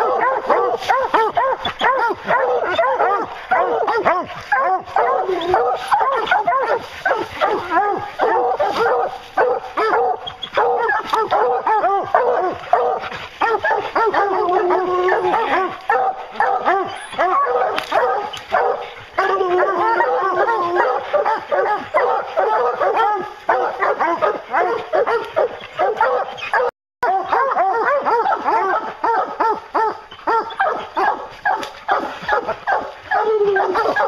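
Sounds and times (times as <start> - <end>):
hounds baying and barking: 0.0 - 34.0.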